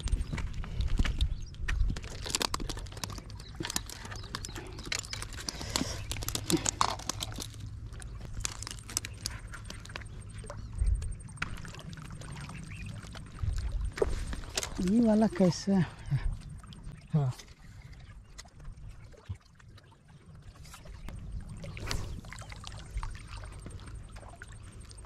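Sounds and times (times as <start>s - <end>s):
steady low rumble: 0.0s - 19.1s, 20.8s - 25.0s.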